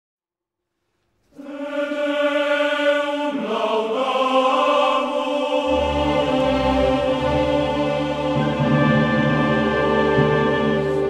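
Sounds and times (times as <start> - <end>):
choir-like chords: 1.4 - 11.0.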